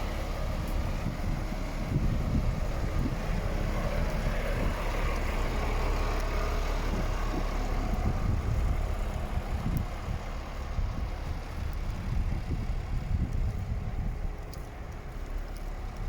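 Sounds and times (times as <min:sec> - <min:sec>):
truck diesel engine rumbling: 0:00.0 - 0:16.0
wind buffeting microphone: 0:00.0 - 0:16.0.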